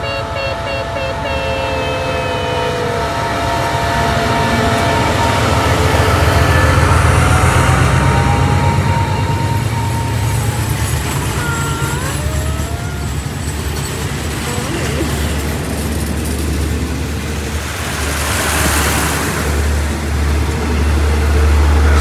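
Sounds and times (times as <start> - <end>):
low rumble of vehicle engines: 0.0 - 22.0
rush of noise: 1.0 - 22.0.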